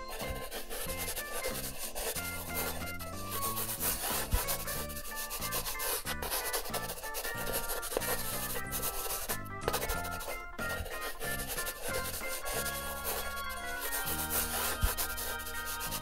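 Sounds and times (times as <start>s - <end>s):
light background tune: 0.0s - 16.0s
marker scratching on paper: 0.0s - 16.0s.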